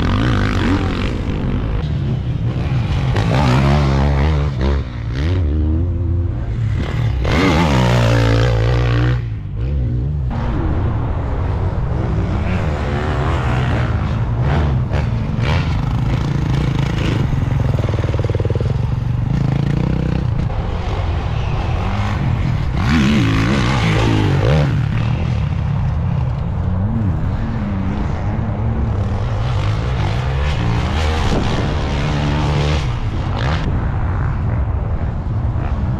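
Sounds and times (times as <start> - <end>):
motocross bike engine revving: 0.0 - 10.7, 12.0 - 33.7.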